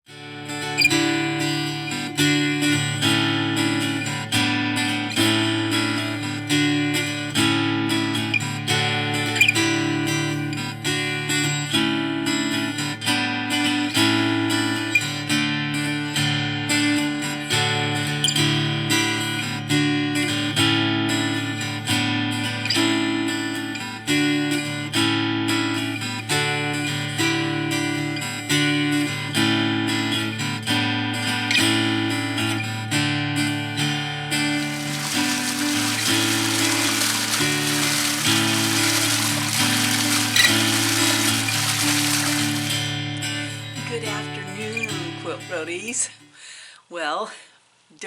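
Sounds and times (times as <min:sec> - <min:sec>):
acoustic guitar strumming: 0:00.1 - 0:45.8.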